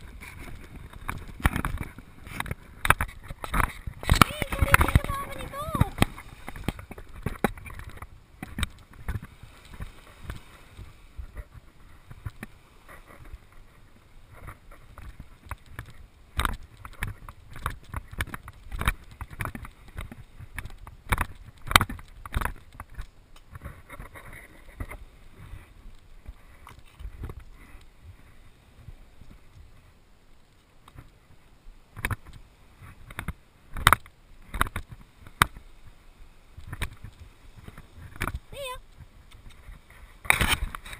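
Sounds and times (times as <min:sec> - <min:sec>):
camera jostling thumps and rustles: 0:00.0 - 0:29.8, 0:36.6 - 0:40.9.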